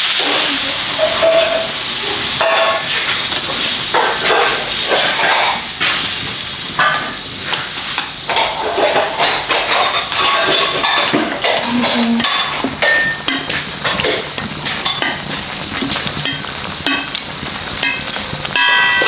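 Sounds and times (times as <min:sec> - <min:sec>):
meat sizzling in a pan: 0:00.0 - 0:19.0
water pouring into pan: 0:00.0 - 0:19.0.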